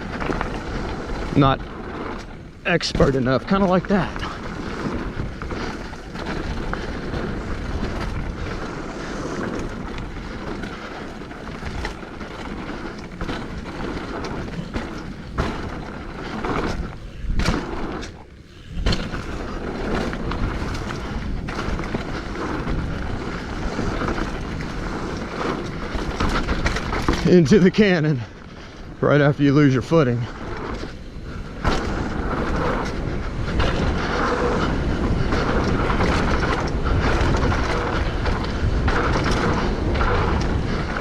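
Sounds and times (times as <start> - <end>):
bike rattling and knocking: 0.0 - 41.0
tyre noise: 0.0 - 41.0
wind noise on microphone: 0.0 - 41.0.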